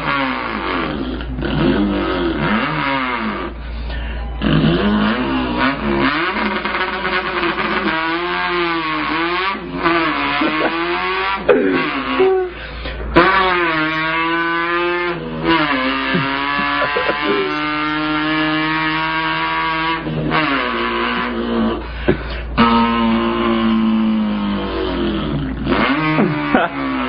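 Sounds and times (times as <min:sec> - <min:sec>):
man imitating car engine revving: 0:00.0 - 0:27.0.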